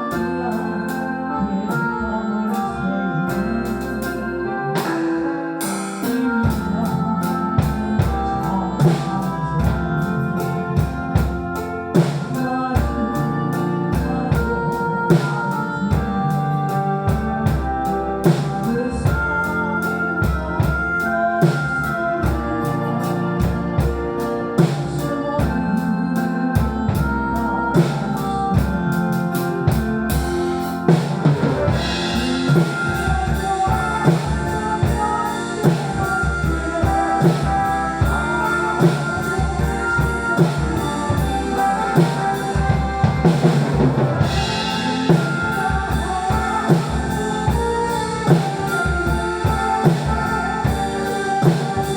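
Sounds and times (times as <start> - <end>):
drum kit playing a beat: 0.0 - 1.8, 2.5 - 51.9
backing track keyboard chords: 0.0 - 51.9.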